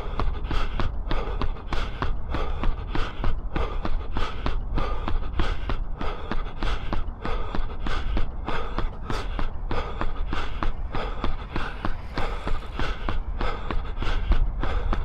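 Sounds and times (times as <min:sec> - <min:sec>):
hard breathing: 0:00.0 - 0:15.0.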